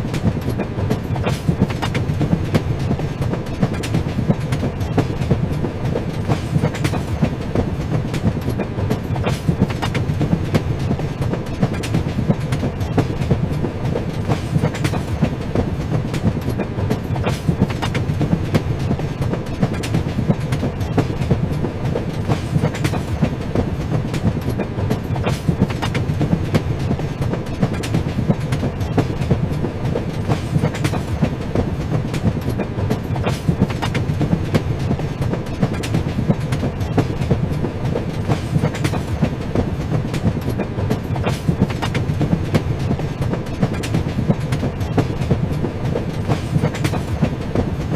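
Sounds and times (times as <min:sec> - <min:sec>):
train rumbling: 0:00.0 - 0:47.9
wheels clicking over rails: 0:00.0 - 0:47.9.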